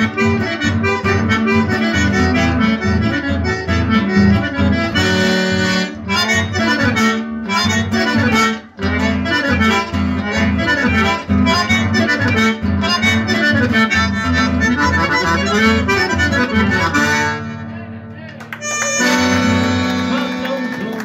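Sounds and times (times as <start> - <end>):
accordion: 0.0 - 17.8, 18.4 - 21.0
acoustic guitar: 0.0 - 21.0.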